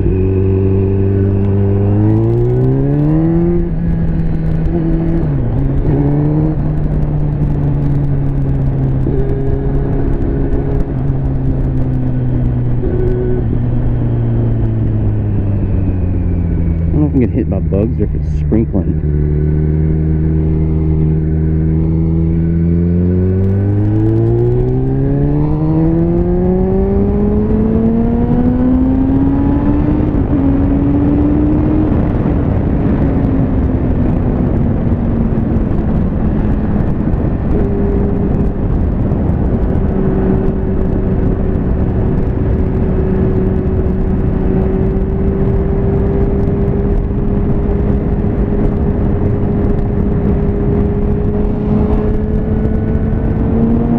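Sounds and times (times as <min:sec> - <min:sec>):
heavy wind rush: 0:00.0 - 0:53.9
motorcycle engine accelerating: 0:00.0 - 0:53.9.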